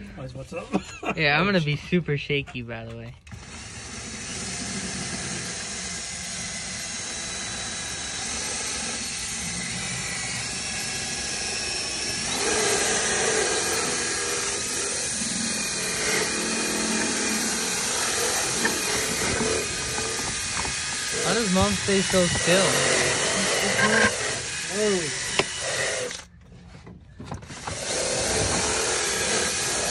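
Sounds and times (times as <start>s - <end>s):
drill motor whine: 3.3s - 26.4s, 27.3s - 29.9s.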